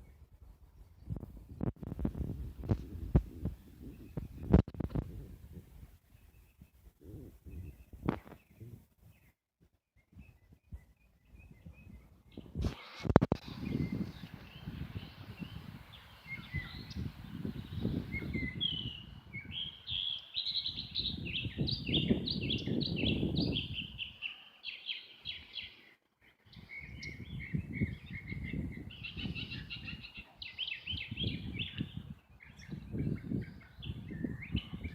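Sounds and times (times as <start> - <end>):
small birds chirping: 0.0 - 5.2, 5.9 - 34.9.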